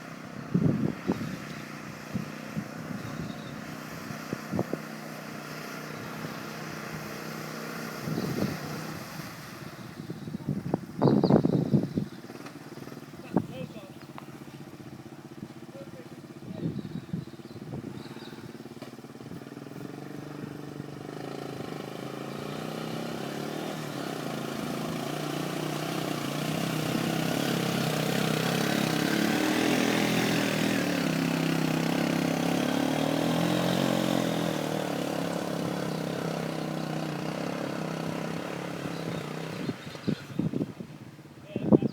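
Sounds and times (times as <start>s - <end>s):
vehicle engine passing by: 0.0s - 41.9s.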